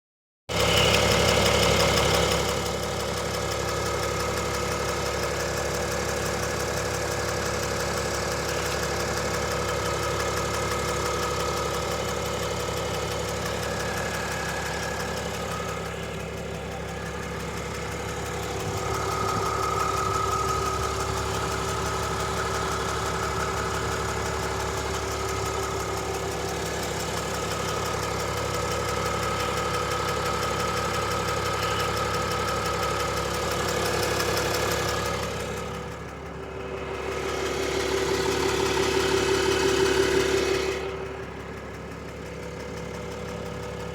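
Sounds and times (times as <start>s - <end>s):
diesel engine idling: 0.5s - 43.9s
engine ticking: 0.5s - 43.9s.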